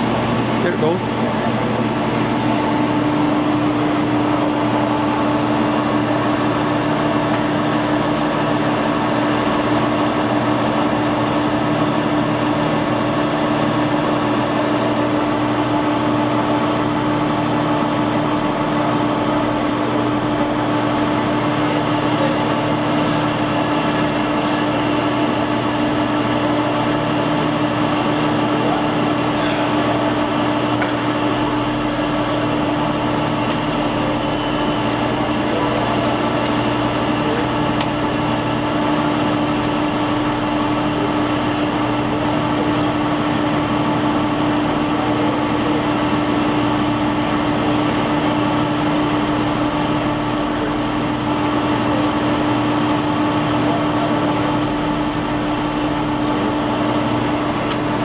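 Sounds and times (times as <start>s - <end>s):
steady hum: 0.0s - 58.0s
surface grinder drone: 0.0s - 58.0s.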